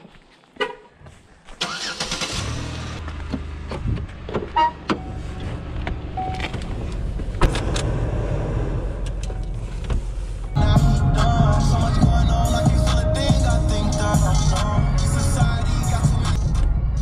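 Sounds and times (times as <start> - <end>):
car engine running: 2.4 - 17.0.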